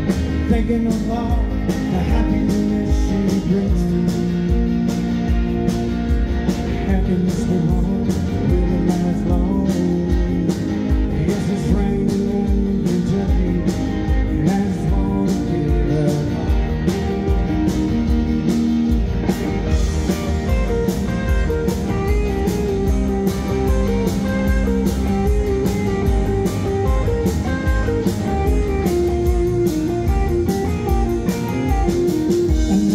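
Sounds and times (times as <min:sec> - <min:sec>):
live blues-rock band: 0:00.0 - 0:32.9.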